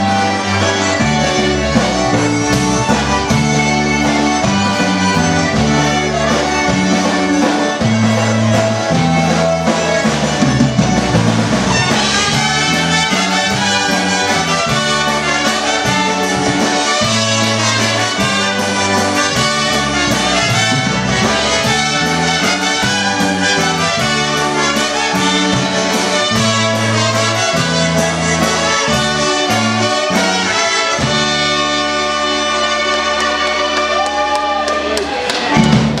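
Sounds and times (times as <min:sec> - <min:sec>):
concertina: 0:00.0 - 0:36.0
drums: 0:00.0 - 0:36.0
guitar: 0:00.0 - 0:36.0
trumpets playing melody: 0:00.0 - 0:36.0.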